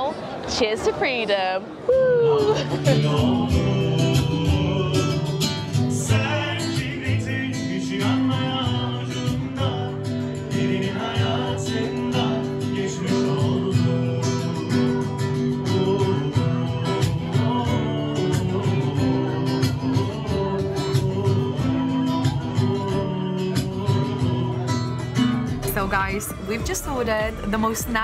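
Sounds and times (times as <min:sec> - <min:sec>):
person singing: 0:01.9 - 0:26.6
acoustic guitar strumming: 0:02.4 - 0:28.0.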